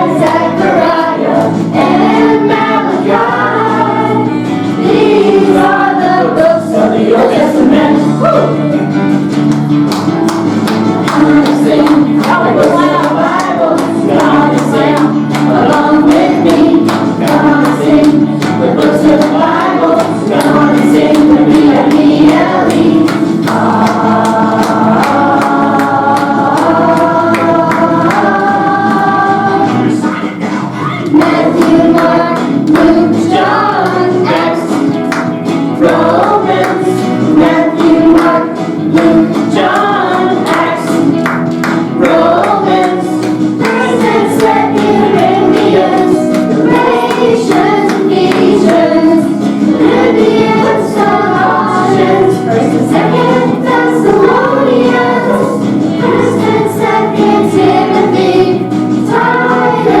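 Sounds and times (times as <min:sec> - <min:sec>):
choir singing with instrumental backing: 0:00.0 - 1:00.0.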